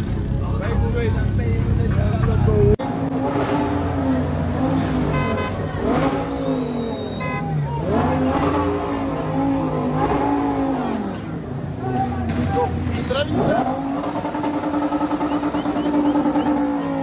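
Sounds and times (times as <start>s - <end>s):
sports car engines revving: 0.0s - 17.0s.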